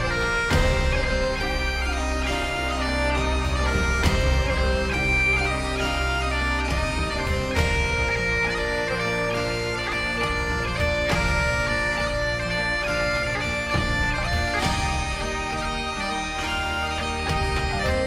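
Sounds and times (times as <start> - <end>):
bagpipe music: 0.0 - 18.0.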